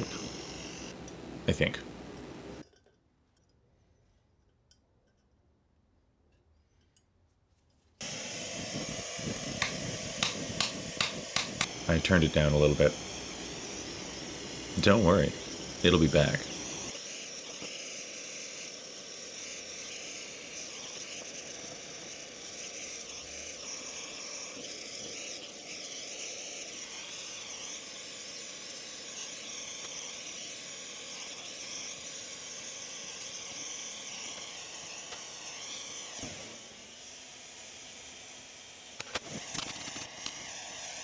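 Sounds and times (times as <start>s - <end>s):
gas torch flame hissing: 0.0s - 1.0s, 8.0s - 41.0s.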